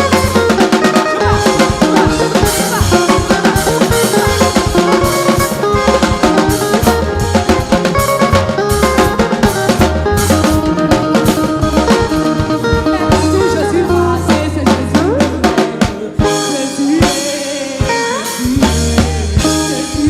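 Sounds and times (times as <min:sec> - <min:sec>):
drum kit playing: 0:00.0 - 0:20.0
live band music: 0:00.0 - 0:20.0.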